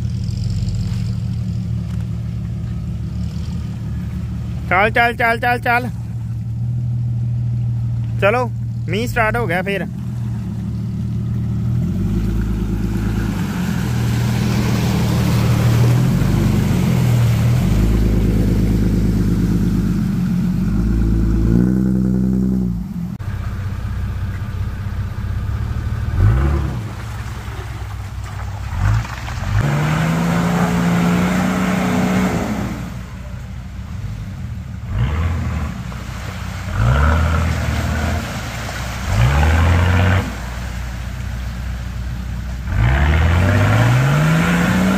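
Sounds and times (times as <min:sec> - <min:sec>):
off-road engines revving: 0:00.0 - 0:44.9.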